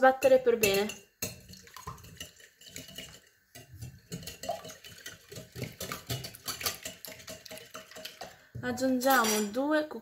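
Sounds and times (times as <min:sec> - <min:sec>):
whisk beating eggs in glass bowl: 0:00.0 - 0:08.5.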